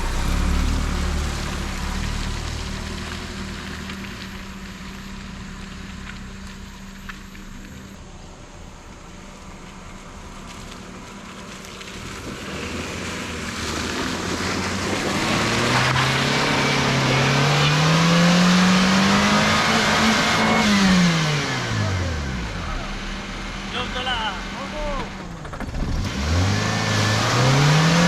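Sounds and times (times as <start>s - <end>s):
motor vehicle passing by: 0.0s - 8.0s, 10.4s - 28.0s.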